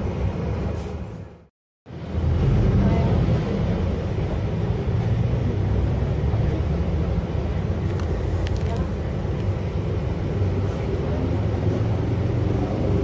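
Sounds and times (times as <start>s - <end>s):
low rumbling street noise: 0.0s - 13.0s.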